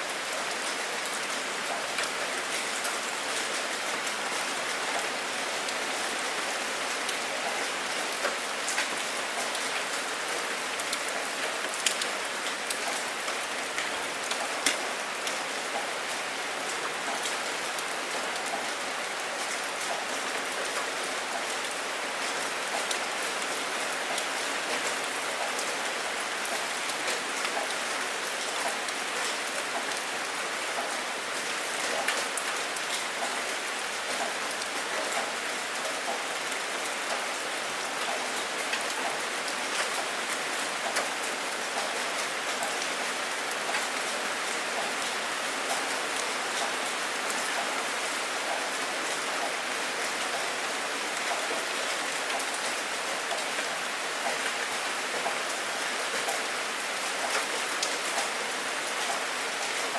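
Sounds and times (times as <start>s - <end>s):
steady rain falling: 0.0s - 59.9s
raindrops ticking close by: 0.5s - 21.9s, 22.5s - 59.9s.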